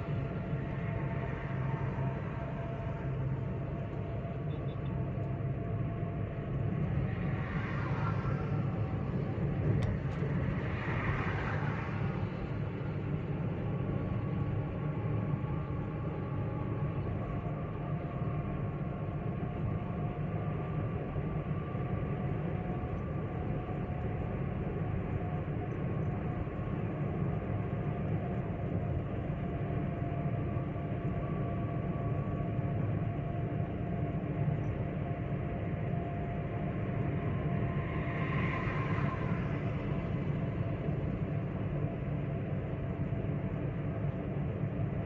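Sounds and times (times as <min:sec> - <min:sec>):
car road and engine noise: 0:00.0 - 0:45.0
faint steady whine: 0:00.0 - 0:45.0.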